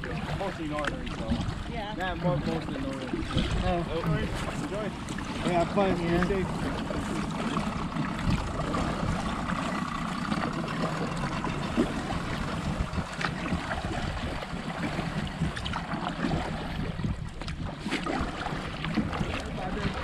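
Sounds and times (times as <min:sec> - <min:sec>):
paddle splashes: 0:00.0 - 0:20.0
wind rumble on microphone: 0:00.0 - 0:20.0.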